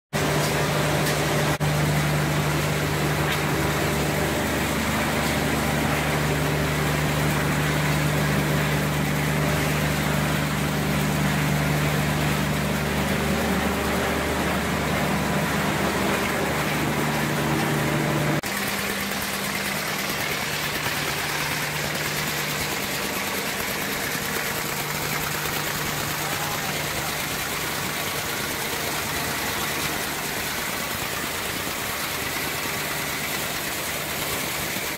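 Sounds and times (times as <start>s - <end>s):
machinery hum and whir: 0.2s - 34.9s.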